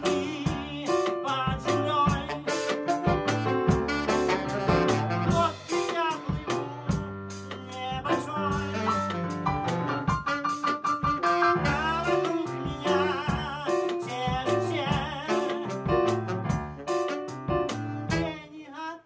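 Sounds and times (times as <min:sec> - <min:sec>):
man singing: 0:00.0 - 0:09.4, 0:11.2 - 0:16.4, 0:18.1 - 0:19.0
live band playing: 0:00.0 - 0:18.4.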